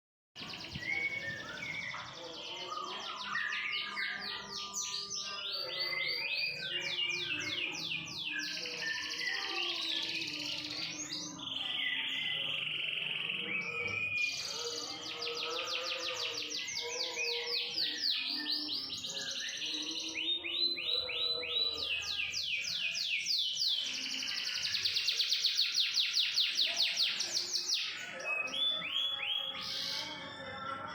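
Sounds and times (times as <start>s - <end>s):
canary singing trills: 0.4s - 30.9s.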